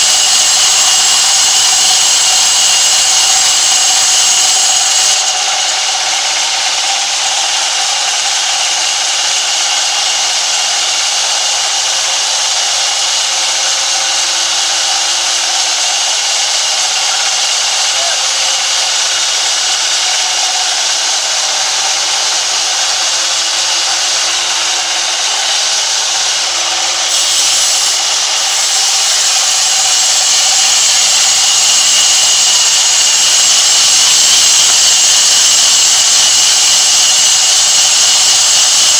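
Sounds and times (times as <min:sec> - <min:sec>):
band saw cutting timber: 0:00.0 - 0:38.9.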